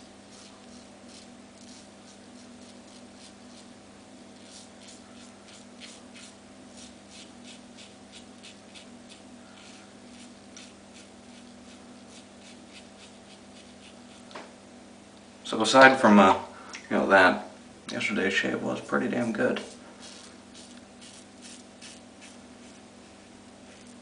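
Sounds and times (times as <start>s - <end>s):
razor scraping stubble: 0.0s - 14.4s, 18.6s - 24.0s
steady low hum: 0.0s - 24.0s.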